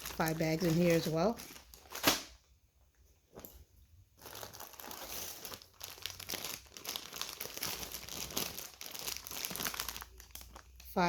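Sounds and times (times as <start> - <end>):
food pouches crinkling: 0.0 - 2.3, 4.2 - 11.0.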